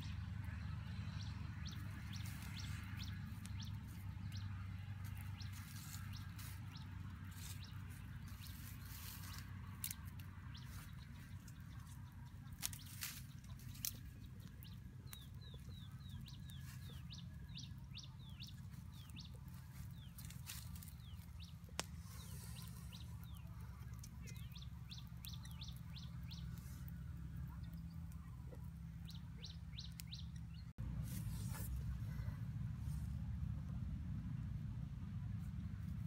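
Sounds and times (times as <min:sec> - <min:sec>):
small birds chirping: 0:00.0 - 0:34.6
steady low rumble: 0:00.0 - 0:36.0.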